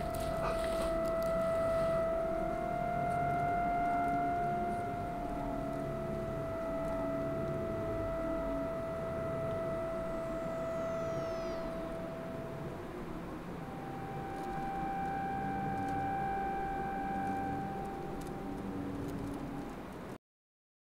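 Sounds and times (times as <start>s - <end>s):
high tones sweeping downward: 0.0s - 19.8s
high drone tone: 0.0s - 20.2s
slow low notes: 0.0s - 20.2s.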